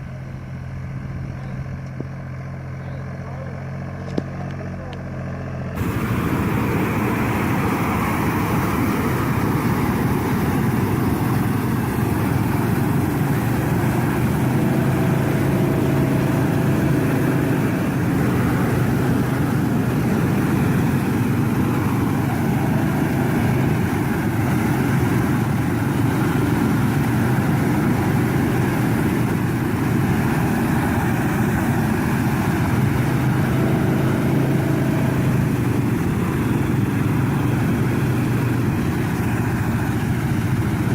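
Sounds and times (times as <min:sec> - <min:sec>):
farm machine engine droning: 0:00.0 - 0:40.9.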